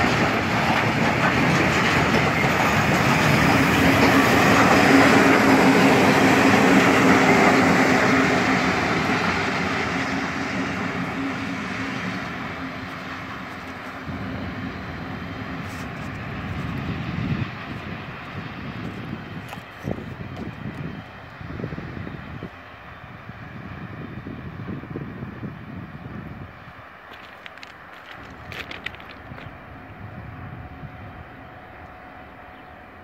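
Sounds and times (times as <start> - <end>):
train wheels running over rails: 0.0 - 22.7, 24.7 - 30.2
diesel locomotives low hum: 0.0 - 33.0.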